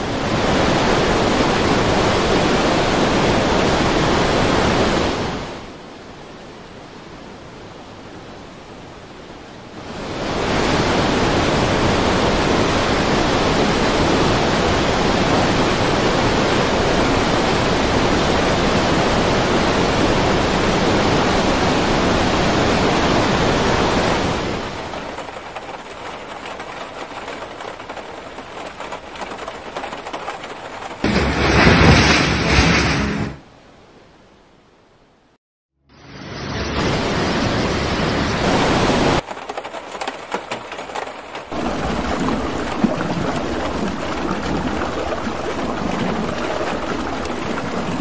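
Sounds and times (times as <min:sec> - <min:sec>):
floodwater rushing: 0:00.0 - 0:05.8, 0:09.7 - 0:33.8, 0:36.7 - 0:48.0.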